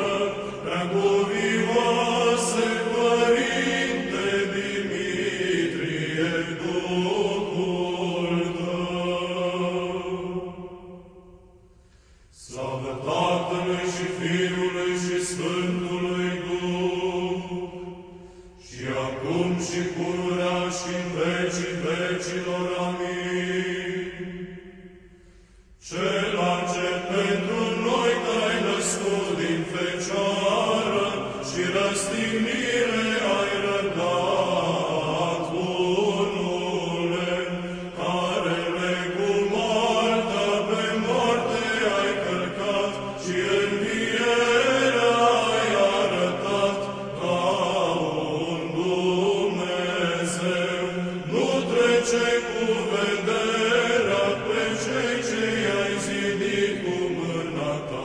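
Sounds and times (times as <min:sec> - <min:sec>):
liturgical chant over a drone: 0:00.0 - 0:58.0.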